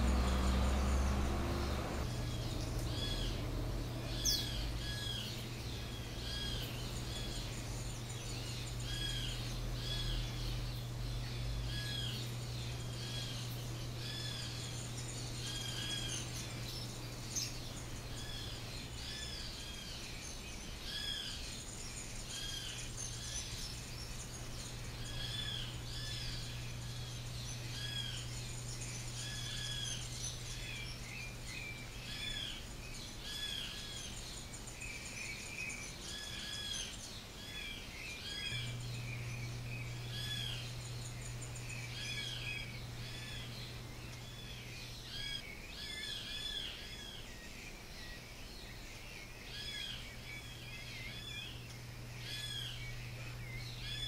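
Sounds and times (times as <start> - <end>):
small birds chirping: 0.0 - 54.0
steady low hum: 0.0 - 54.0.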